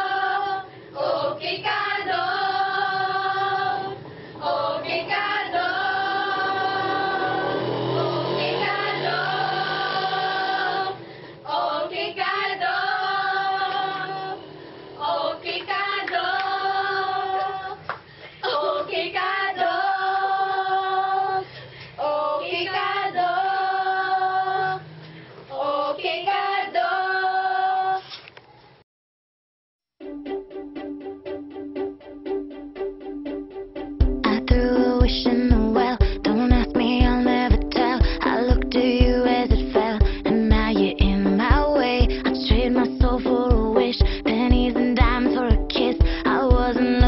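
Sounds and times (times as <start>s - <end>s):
women singing together: 0.0s - 28.1s, 34.2s - 47.0s.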